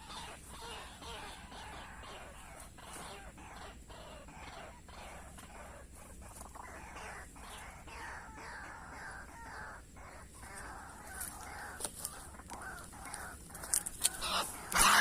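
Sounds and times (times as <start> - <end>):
waterhen harsh rasping calls: 0.0 - 15.0.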